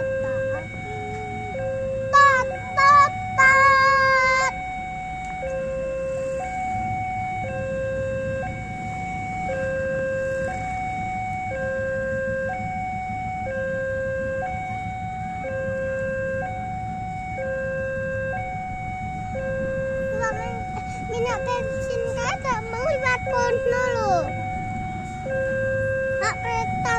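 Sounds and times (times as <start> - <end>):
level crossing two-tone alarm: 0.0 - 26.9.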